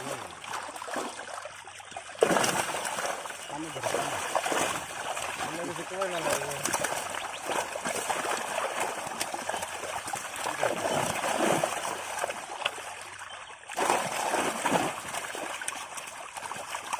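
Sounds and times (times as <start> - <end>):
water splashing and trickling: 0.0 - 16.9.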